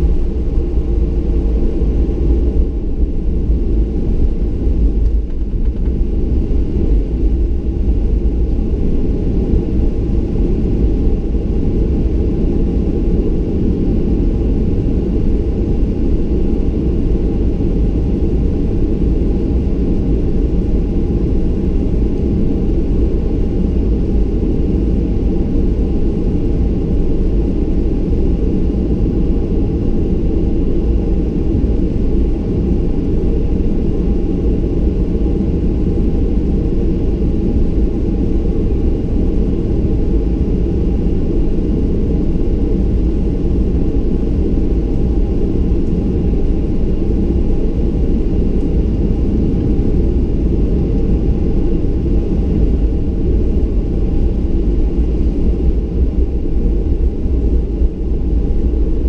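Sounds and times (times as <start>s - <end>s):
airplane cabin engine rumble: 0.0s - 59.0s
faint engine whine: 0.0s - 59.0s.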